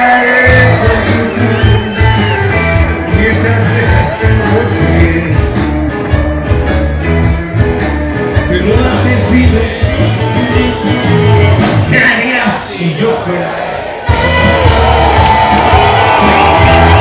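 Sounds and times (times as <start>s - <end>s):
rock band playing loud: 0.0s - 17.0s.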